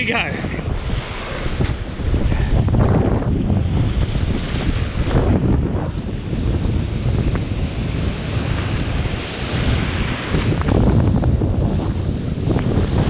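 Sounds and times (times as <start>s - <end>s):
surf breaking: 0.0s - 13.0s
whitewater rushing around kayak: 0.0s - 13.0s
wind buffeting microphone: 0.0s - 13.0s.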